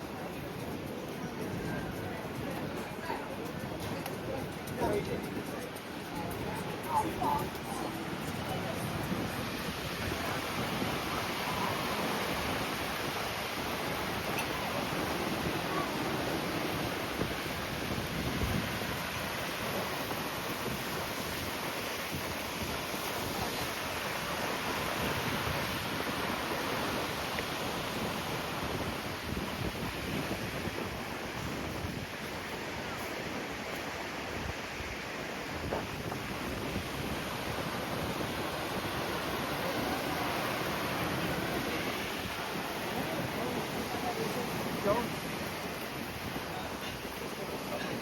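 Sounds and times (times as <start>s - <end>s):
strong wind on microphone: 4.3s - 48.0s.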